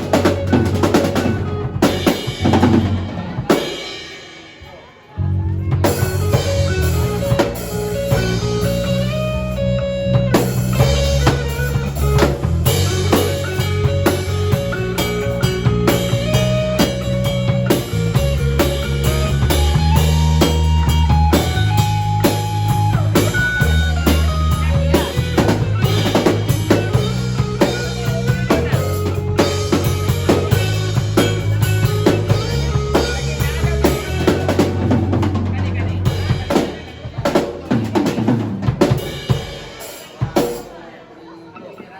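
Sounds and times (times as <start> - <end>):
rock music: 0.0 - 41.1.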